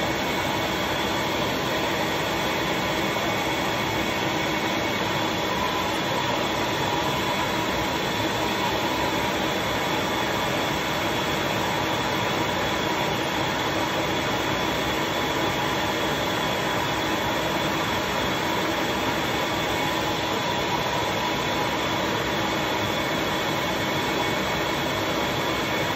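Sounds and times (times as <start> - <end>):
motor humming with high whine: 0.0 - 25.9.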